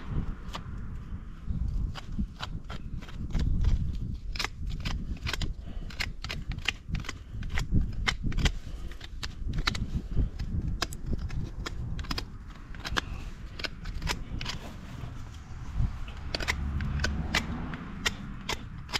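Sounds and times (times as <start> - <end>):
hoof knife scraping hoof: 0.1 - 18.9.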